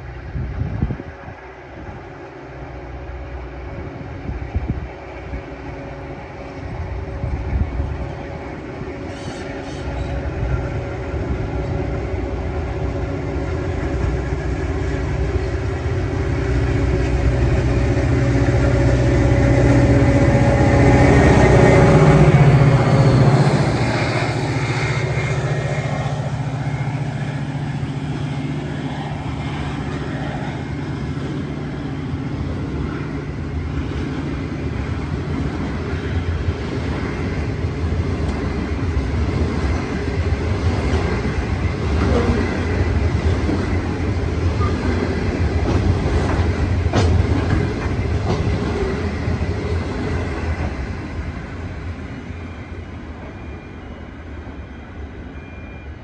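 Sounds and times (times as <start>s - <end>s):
diesel locomotive engine: 0.0s - 56.0s
train wagons rumbling: 2.7s - 53.8s.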